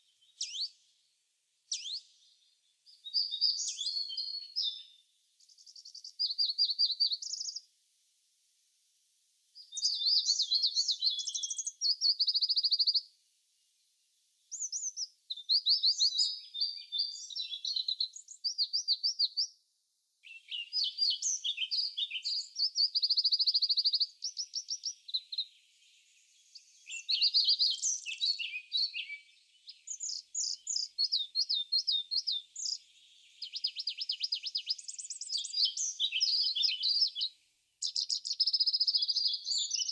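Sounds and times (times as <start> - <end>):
songbirds chirping and trilling: 0.0 - 7.9, 9.5 - 39.9.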